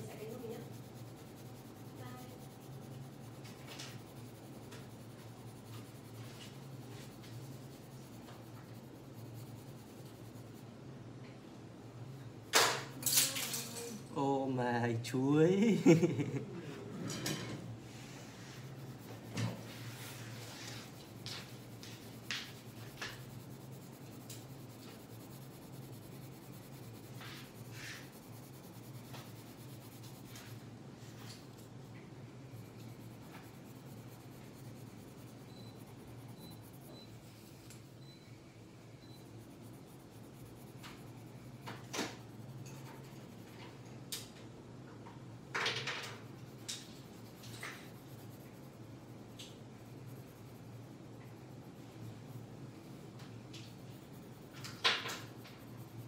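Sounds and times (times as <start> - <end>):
pencil scratching on paper: 0.0 - 10.7, 15.2 - 38.2, 38.8 - 44.4, 45.6 - 56.0.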